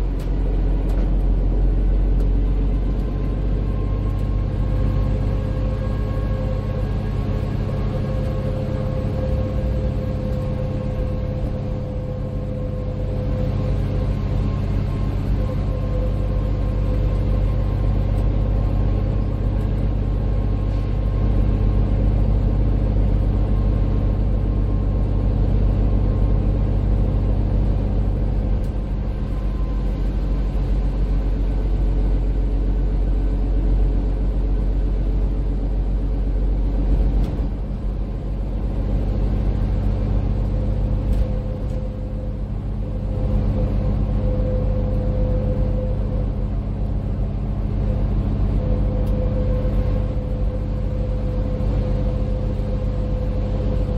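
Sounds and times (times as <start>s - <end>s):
bus engine and road rumble: 0.0s - 53.9s
faint steady whine: 0.0s - 53.9s.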